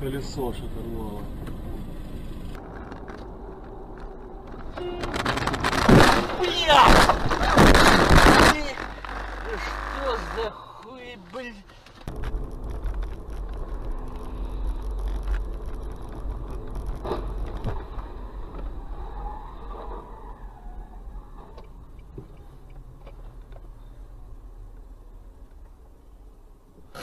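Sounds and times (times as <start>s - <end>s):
tyres and engine rumbling: 0.0s - 27.0s.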